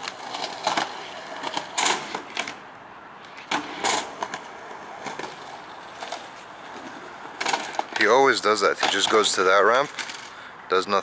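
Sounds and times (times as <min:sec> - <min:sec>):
skateboard scraping: 0:00.0 - 0:02.6, 0:03.2 - 0:08.1, 0:08.7 - 0:10.3
skateboard wheels rolling on concrete: 0:00.0 - 0:11.0.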